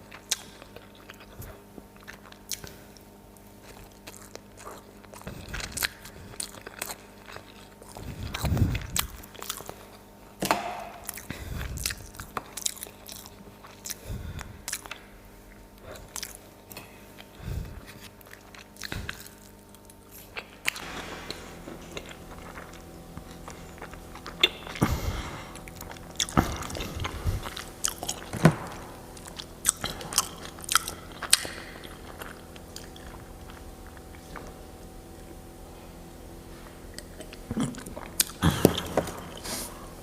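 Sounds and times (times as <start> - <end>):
crunchy chewing: 0.0 - 10.1, 11.0 - 40.0.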